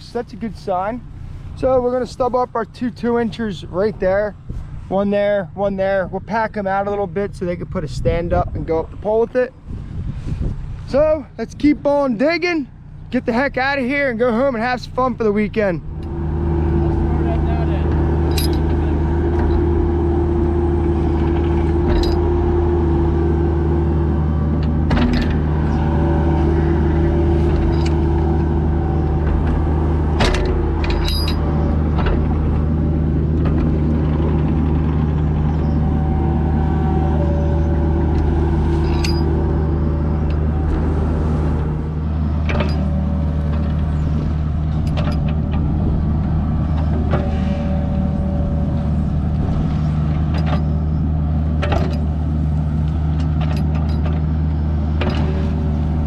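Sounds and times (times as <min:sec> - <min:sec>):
diesel engine under load: 0:00.0 - 0:56.0
hydraulics whine: 0:00.0 - 0:56.0.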